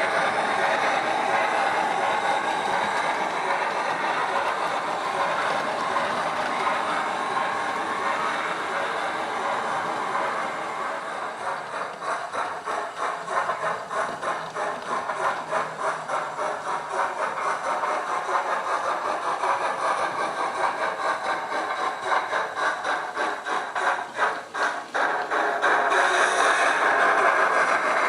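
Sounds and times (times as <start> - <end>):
model locomotive steam chuffs: 0.0 - 28.0.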